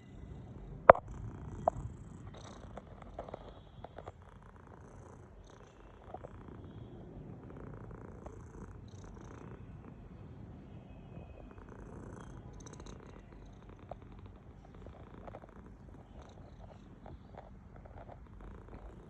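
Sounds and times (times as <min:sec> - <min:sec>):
cat snoring: 0:00.0 - 0:19.0.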